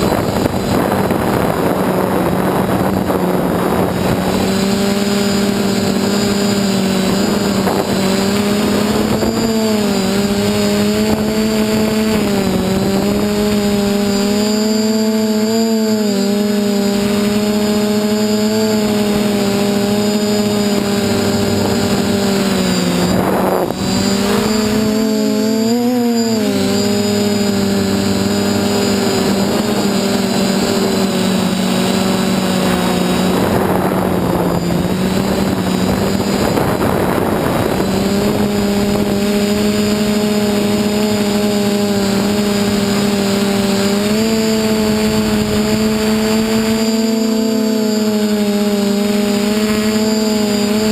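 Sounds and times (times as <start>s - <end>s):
quadcopter motors buzzing: 0.0s - 50.9s.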